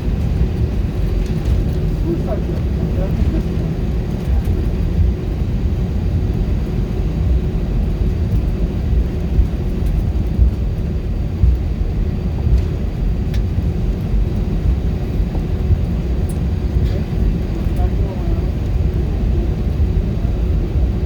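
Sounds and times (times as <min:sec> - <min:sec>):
jet engine cabin rumble: 0:00.0 - 0:21.0.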